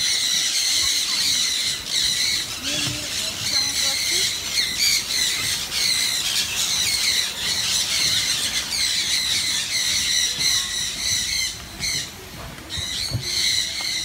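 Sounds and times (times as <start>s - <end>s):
flock of birds squawking: 0.0s - 14.0s.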